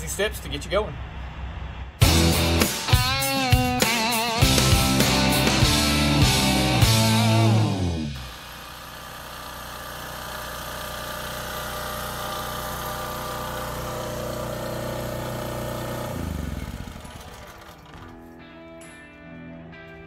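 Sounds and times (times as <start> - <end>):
generator engine running: 0.0 - 18.4.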